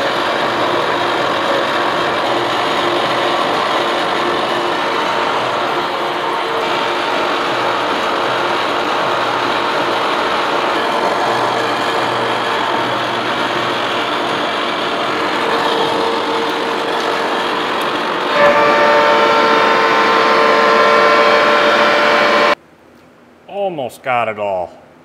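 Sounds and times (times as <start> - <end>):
milling machine cutting metal: 0.0 - 22.6.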